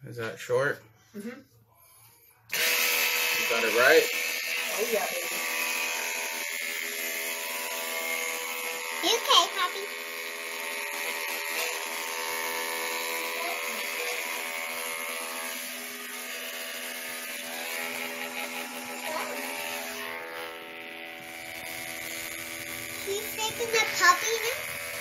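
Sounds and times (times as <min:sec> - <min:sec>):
electric hair clippers buzzing: 0:02.5 - 0:25.0.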